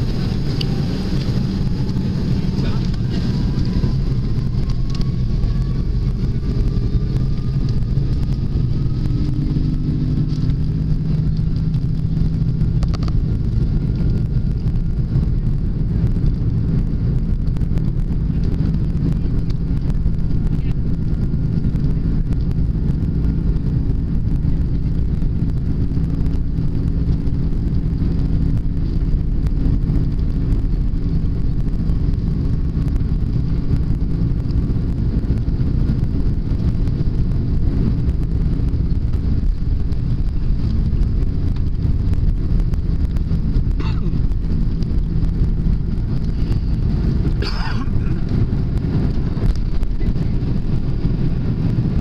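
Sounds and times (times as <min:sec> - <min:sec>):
jet engines rumbling in cabin: 0:00.0 - 0:52.0
low hum: 0:00.0 - 0:52.0.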